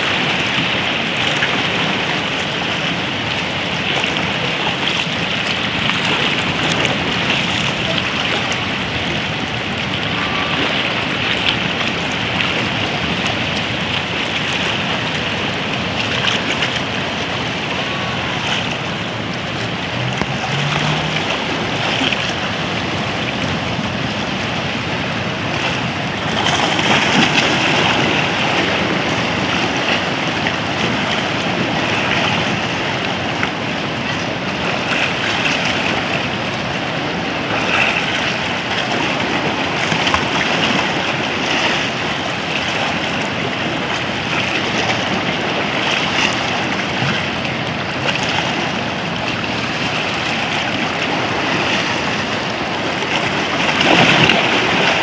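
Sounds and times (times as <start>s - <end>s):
waves splashing around rocks: 0.0s - 55.0s.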